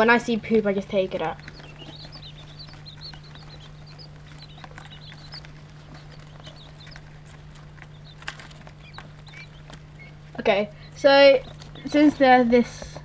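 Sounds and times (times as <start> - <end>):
quail chicks peeping: 0.0 - 13.0
steady low hum: 0.0 - 13.0.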